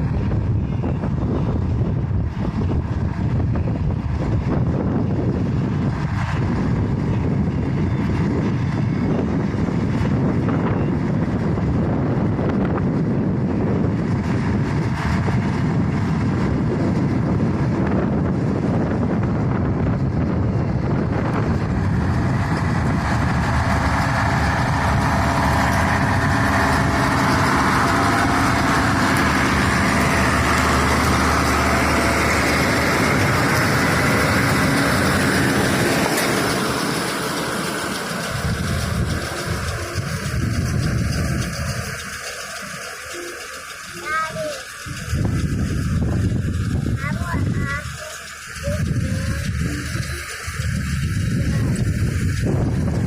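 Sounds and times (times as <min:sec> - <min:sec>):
high whine: 0:00.0 - 0:53.0
tractor engine running: 0:00.0 - 0:53.0.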